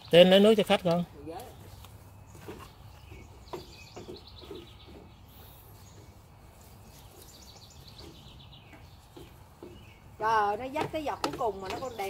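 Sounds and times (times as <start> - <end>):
faint bird chirping trills: 1.4 - 12.0.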